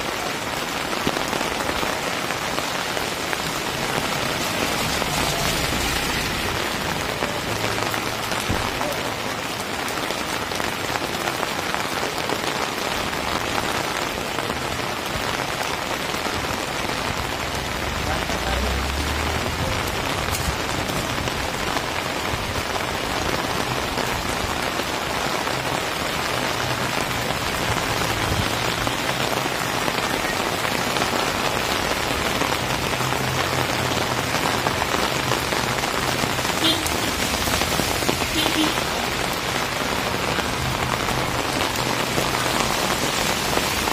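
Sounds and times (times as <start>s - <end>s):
rain on pavement: 0.0s - 43.9s.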